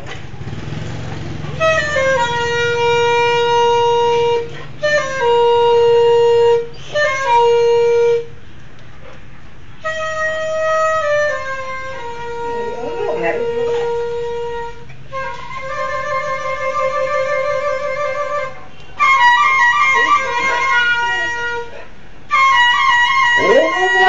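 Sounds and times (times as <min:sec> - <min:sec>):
flute playing long notes: 0:01.6 - 0:08.4, 0:09.7 - 0:24.0.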